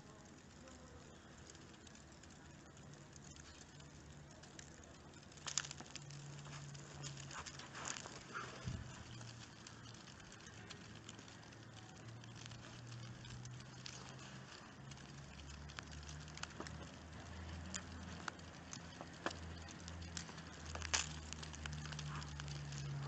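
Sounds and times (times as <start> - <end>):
wet snow pattering: 0.0 - 23.0.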